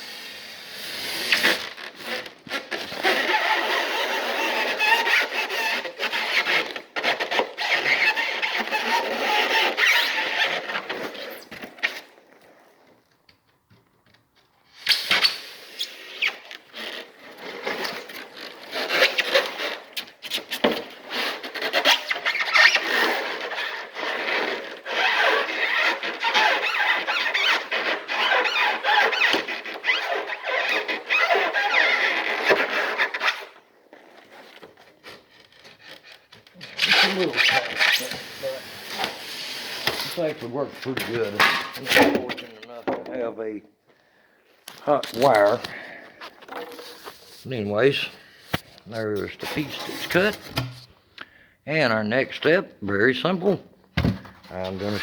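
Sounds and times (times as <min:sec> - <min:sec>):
hot wire squeaking through foam: 0:00.0 - 0:13.0, 0:14.6 - 0:43.4, 0:44.8 - 0:50.9, 0:54.4 - 0:55.0.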